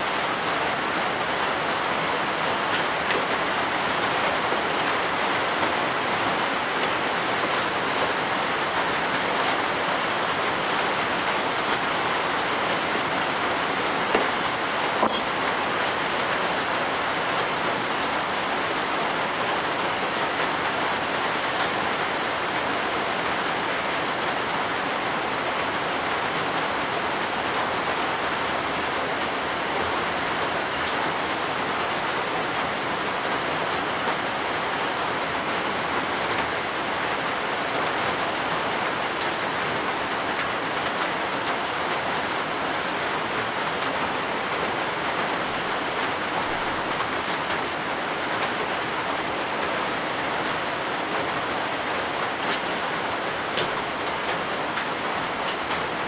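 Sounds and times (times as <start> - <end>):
steady rain on a roof: 0.0 - 56.0.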